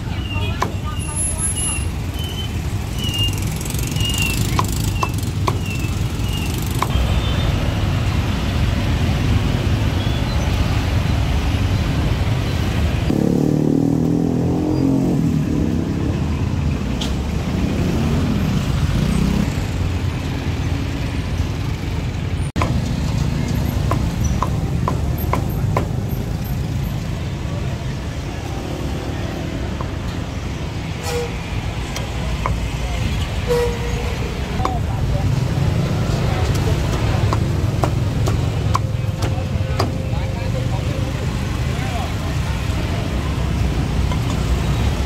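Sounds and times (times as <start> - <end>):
street traffic rumble: 0.0 - 45.0.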